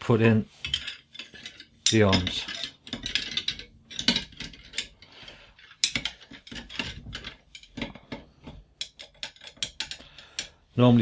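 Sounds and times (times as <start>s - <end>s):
metal rods clinking in glass vase: 0.6s - 10.5s.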